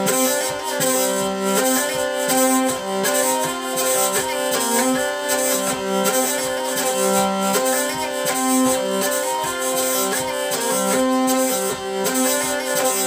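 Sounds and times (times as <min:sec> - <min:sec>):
hurdy-gurdy playing: 0:00.0 - 0:13.0.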